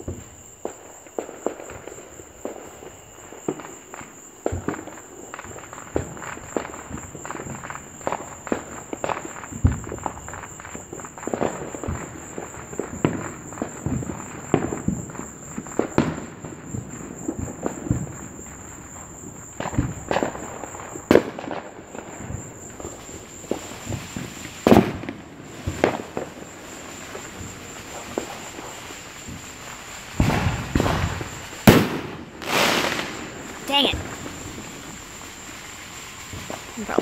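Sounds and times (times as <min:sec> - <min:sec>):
fireworks popping and banging: 0:00.0 - 0:37.0.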